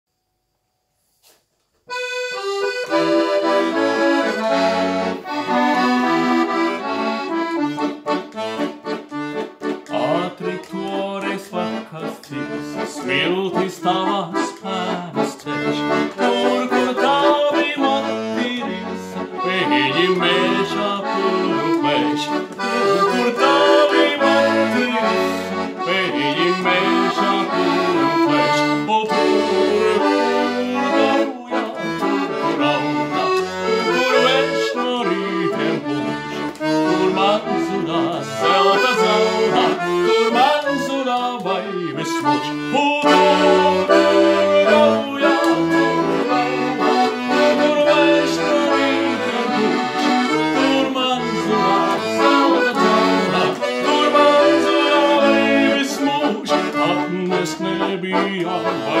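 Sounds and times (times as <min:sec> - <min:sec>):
accordion playing a tune: 0:01.2 - 0:59.0.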